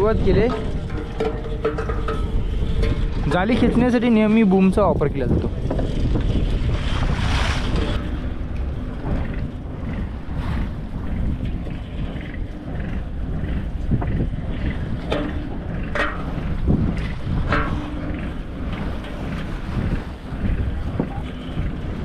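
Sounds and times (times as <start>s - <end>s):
boat engine rumbling: 0.0s - 22.0s
wind buffeting microphone: 0.0s - 22.0s.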